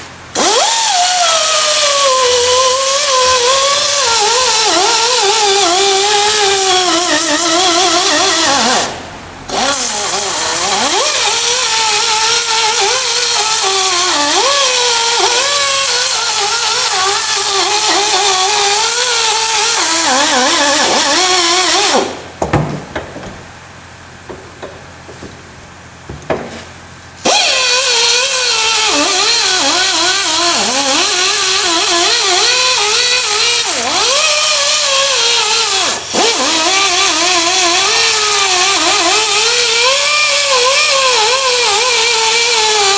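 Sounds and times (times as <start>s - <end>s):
power grinder on metal: 0.4s - 22.2s, 26.3s - 42.9s.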